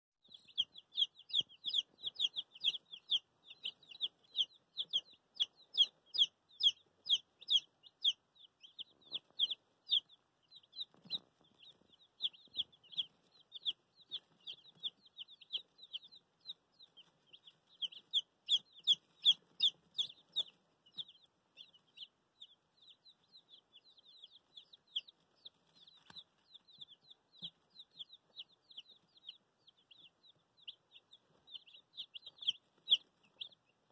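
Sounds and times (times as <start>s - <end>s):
chicks peeping: 0.2s - 33.9s.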